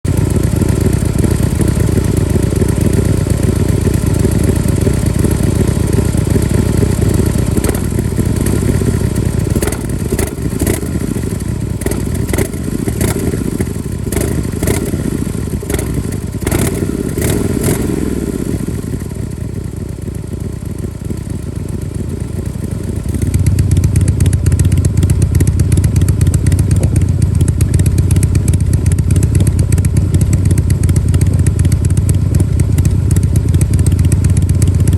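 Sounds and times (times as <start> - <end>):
motorcycle exhaust rumble: 0.0 - 34.9.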